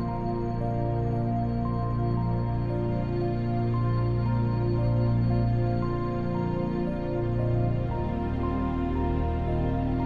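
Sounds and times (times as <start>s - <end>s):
slow ambient background music: 0.0s - 10.0s.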